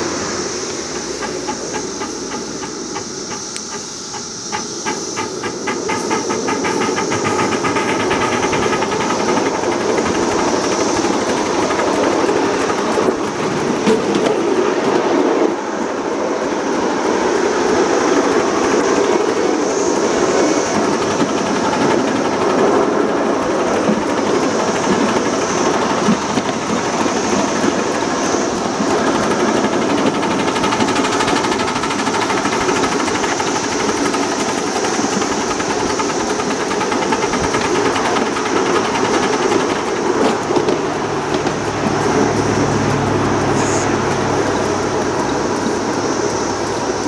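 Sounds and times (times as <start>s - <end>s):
miniature train clattering on track: 0.0s - 47.0s.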